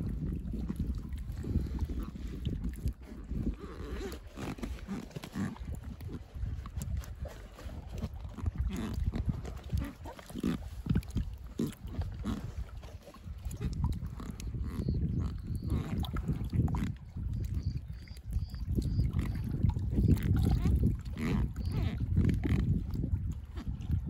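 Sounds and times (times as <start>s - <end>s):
water slapping against float tube: 0.0s - 24.0s
wind buffeting microphone: 0.0s - 24.0s.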